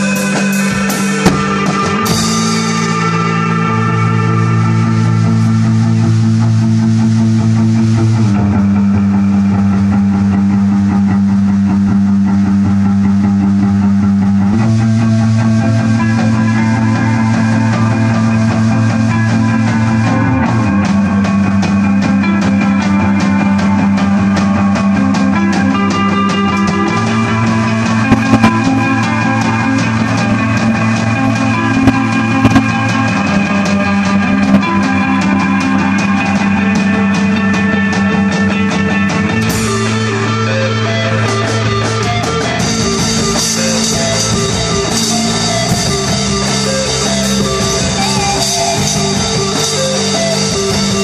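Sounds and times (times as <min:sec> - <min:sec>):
drum kit cymbals: 0:00.0 - 0:08.7, 0:14.6 - 0:51.0
bass guitar: 0:00.0 - 0:51.0
electric guitar: 0:00.0 - 0:51.0.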